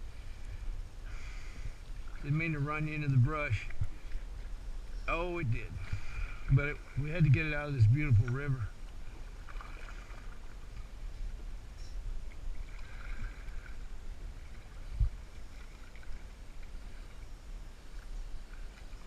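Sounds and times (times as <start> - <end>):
faint water sounds: 0.0 - 19.0
low steady rumble: 0.0 - 19.0.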